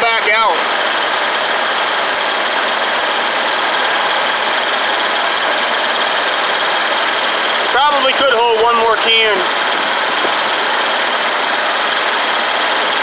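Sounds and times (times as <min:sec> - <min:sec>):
air-conditioning compressor running: 0:00.0 - 0:13.0
vehicle engine idling: 0:00.0 - 0:13.0.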